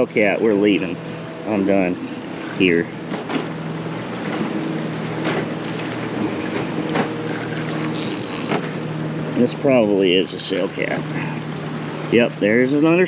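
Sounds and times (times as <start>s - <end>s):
water lapping against kayak hull: 0.0s - 12.6s
steady low hum: 0.0s - 13.0s.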